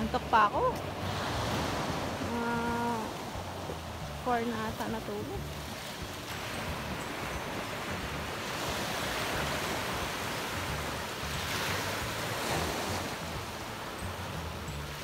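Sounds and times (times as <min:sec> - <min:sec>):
waves on pebble shore: 0:00.0 - 0:15.0
wind rumble on microphone: 0:00.0 - 0:15.0.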